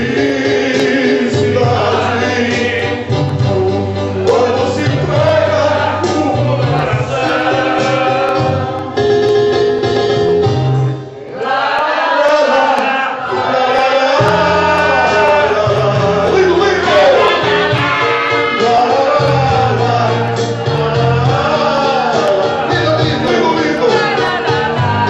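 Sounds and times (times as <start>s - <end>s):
person singing: 0.0s - 9.4s, 12.4s - 25.0s
backing music with bass: 0.0s - 11.2s, 13.2s - 25.0s.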